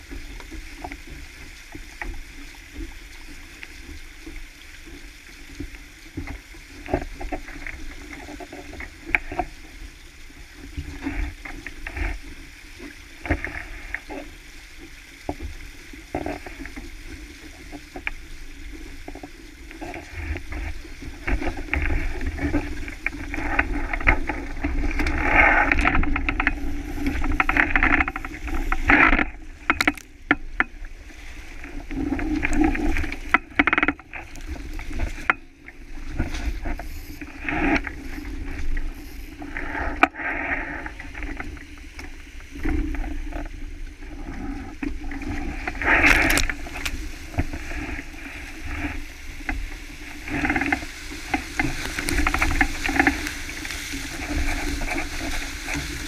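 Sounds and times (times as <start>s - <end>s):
water rushing past hull: 0.0s - 56.0s.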